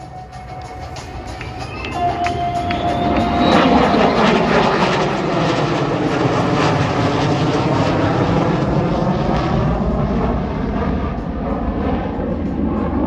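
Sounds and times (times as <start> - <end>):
jet aircraft flying overhead: 0.0 - 13.0.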